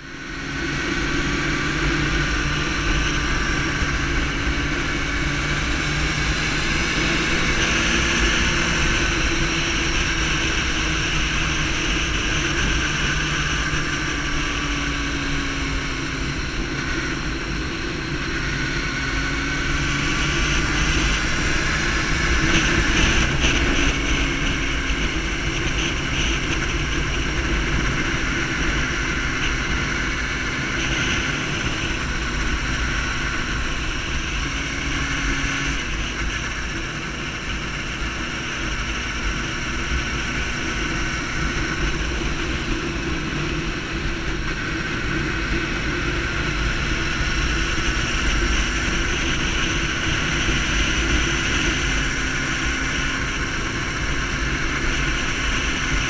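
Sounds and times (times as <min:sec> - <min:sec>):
motorcycle engine at speed: 0:00.0 - 0:56.0
wind rushing over microphone: 0:00.0 - 0:56.0.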